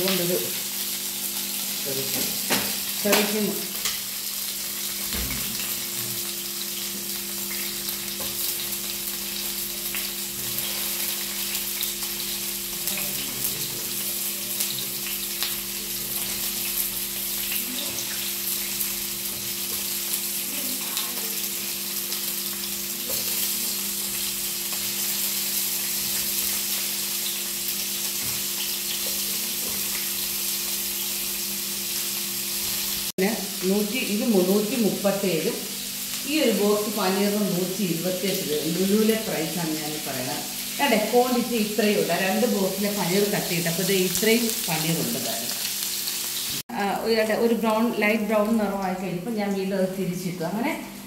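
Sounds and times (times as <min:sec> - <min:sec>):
cheese cubes sizzling in oil: 0:00.0 - 0:51.0.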